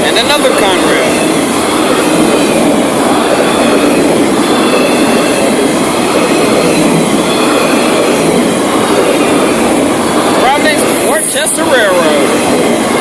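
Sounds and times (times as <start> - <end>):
freight train wheels rumbling: 0.0 - 13.0
wheels squealing: 0.0 - 13.0.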